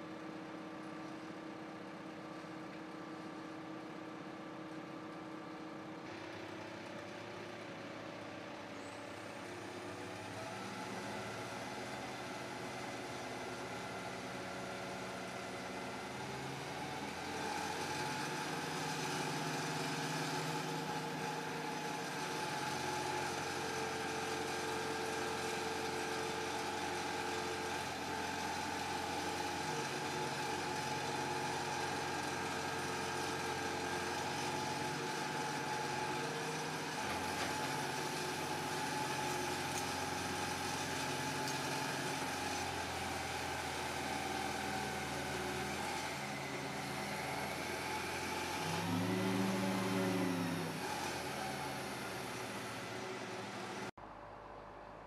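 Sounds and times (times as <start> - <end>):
crane diesel engine running: 0.0 - 55.0.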